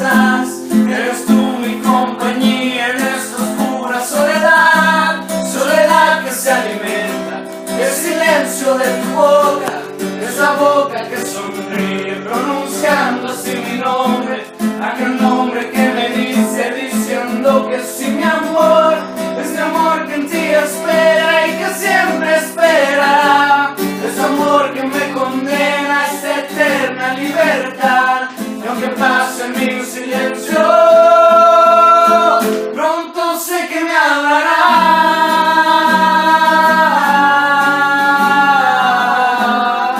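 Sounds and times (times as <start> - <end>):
guitar: 0.0 - 39.9
person singing: 0.0 - 39.9.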